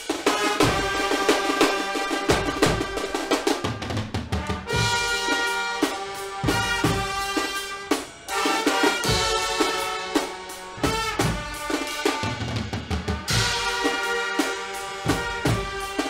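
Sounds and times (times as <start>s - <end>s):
brass band playing chords: 0.0s - 16.0s
drum kit and bass drum: 0.0s - 16.0s.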